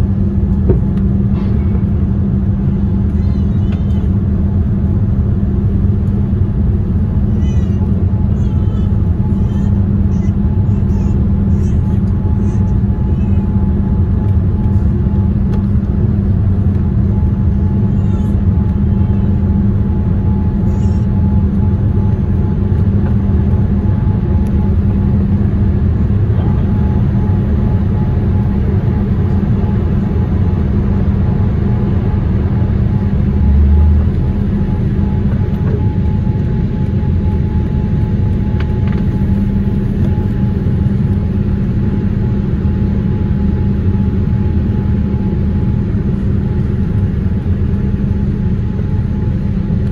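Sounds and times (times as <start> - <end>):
airliner cabin roar: 0.0 - 49.9
low hum: 0.0 - 49.9.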